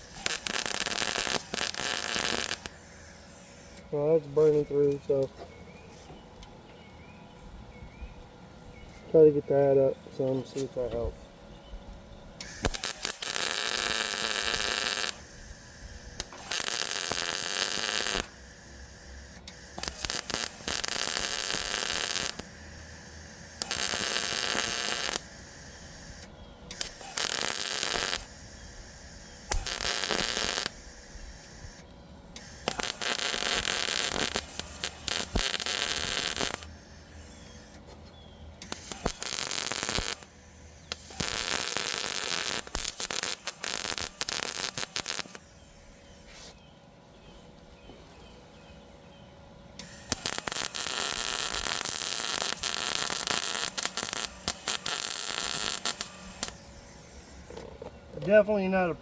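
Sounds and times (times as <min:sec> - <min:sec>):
welder crackling hiss: 0:00.0 - 0:05.3, 0:12.4 - 0:38.0, 0:38.6 - 0:46.6, 0:49.8 - 0:59.0.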